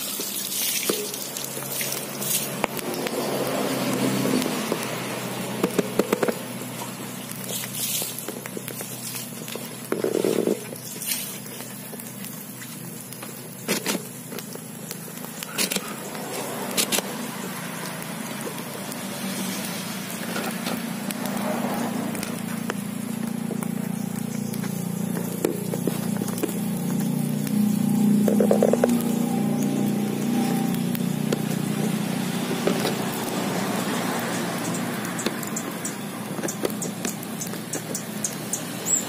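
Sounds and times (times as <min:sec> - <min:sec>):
low engine hum: 0:01.2 - 0:39.0.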